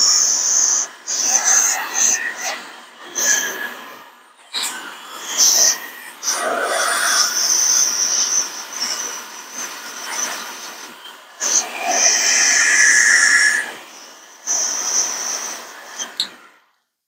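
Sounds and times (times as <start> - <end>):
air blower hiss: 0.0 - 16.7
high motor whine: 0.0 - 16.7.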